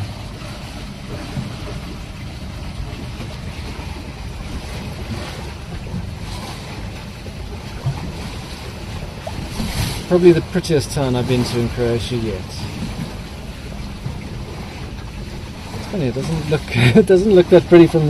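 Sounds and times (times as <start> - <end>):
water washing past hull: 0.0 - 18.0.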